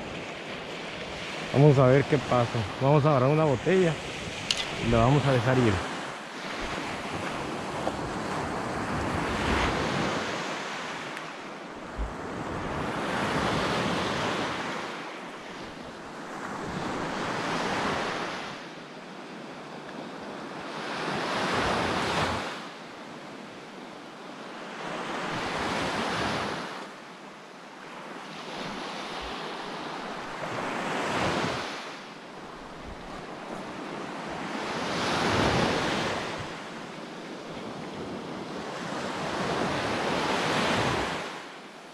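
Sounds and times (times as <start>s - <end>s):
ocean waves breaking: 0.0s - 41.9s.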